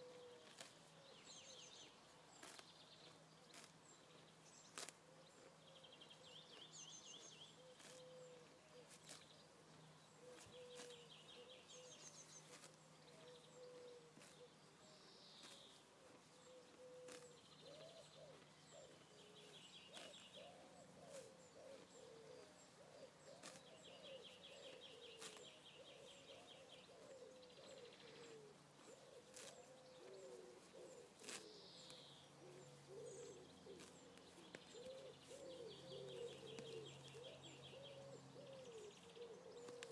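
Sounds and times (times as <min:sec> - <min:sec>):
lower wavering bird calls: 0:00.0 - 0:00.7, 0:05.1 - 0:09.2, 0:10.1 - 0:15.6, 0:16.3 - 0:39.9.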